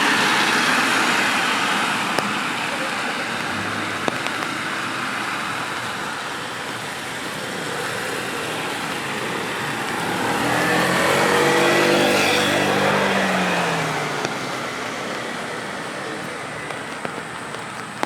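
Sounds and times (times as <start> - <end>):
car driving past: 0.0 - 17.4
rain on a wet street: 0.0 - 18.0.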